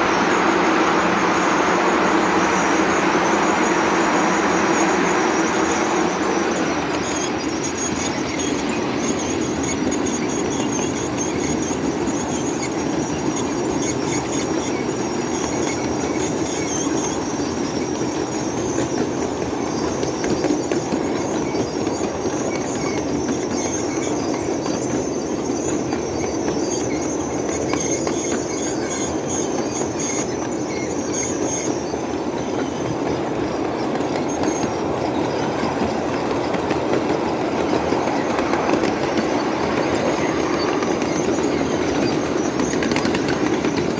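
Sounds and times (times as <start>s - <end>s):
high-pitched brake squeal: 0.0s - 43.9s
train wheels rumbling on rail: 0.0s - 43.9s.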